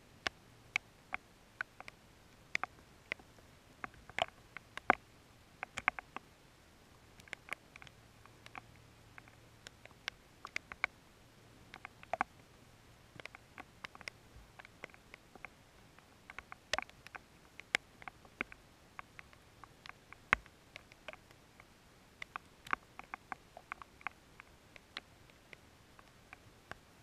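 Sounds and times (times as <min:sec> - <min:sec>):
raindrops ticking on camera: 0:00.0 - 0:06.3, 0:06.9 - 0:27.0.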